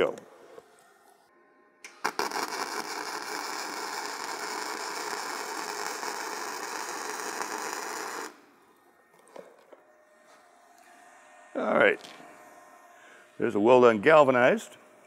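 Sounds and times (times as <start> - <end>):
welding arc noise: 1.8 - 14.8.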